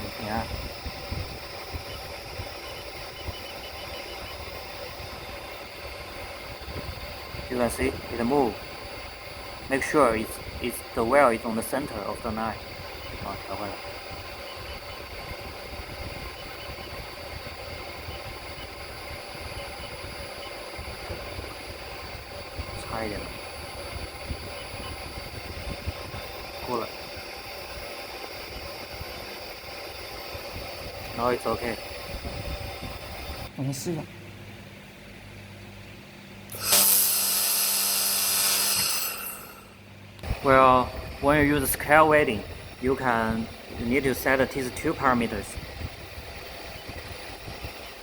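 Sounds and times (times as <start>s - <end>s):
welding machine humming: 0.0s - 33.5s, 36.5s - 48.0s
thin high whine: 0.0s - 34.5s, 36.5s - 48.0s.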